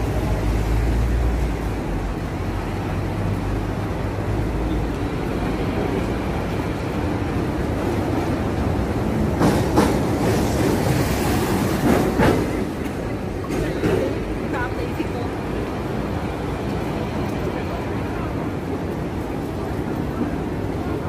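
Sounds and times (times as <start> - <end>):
street traffic rumble: 0.0 - 21.0
tram running on rails: 0.0 - 21.0.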